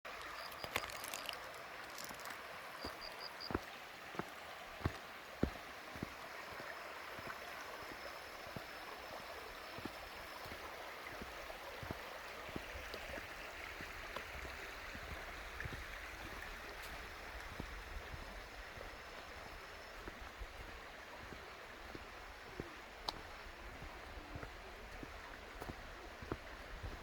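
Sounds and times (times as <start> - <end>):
stream water flowing: 0.1 - 27.0.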